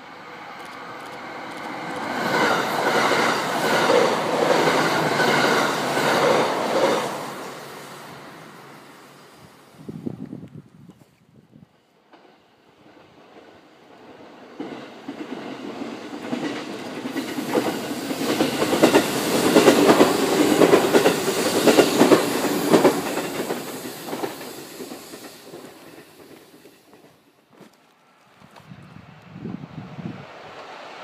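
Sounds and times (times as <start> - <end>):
electric train passing: 0.0 - 10.6, 11.8 - 31.0.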